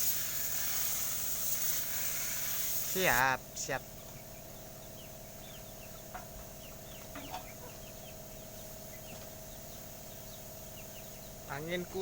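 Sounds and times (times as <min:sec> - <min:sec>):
birds chirping: 0:01.6 - 0:12.0.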